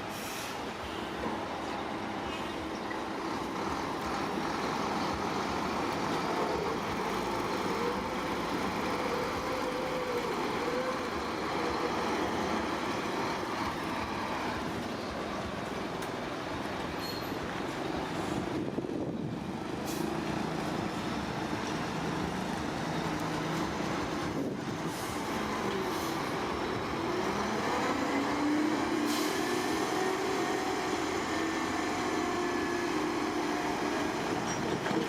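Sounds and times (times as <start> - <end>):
heavy diesel machinery running: 0.0 - 35.0.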